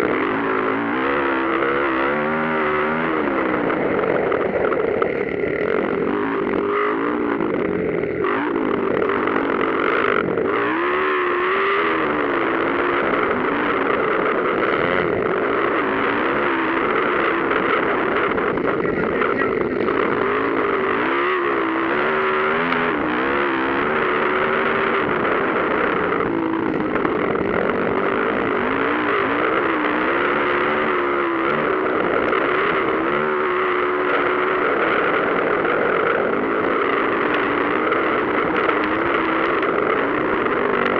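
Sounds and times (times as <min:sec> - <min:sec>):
motocross engines revving: 0:00.0 - 0:40.9.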